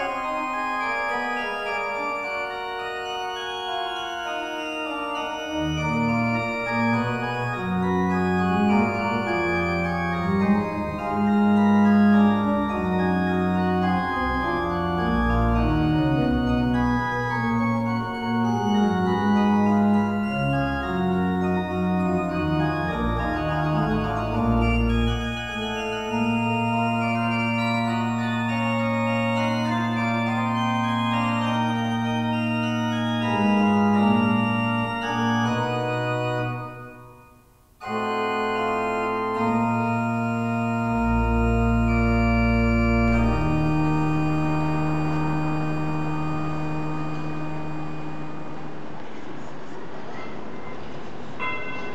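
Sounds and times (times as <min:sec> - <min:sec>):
organ chords: 0:00.0 - 0:49.0.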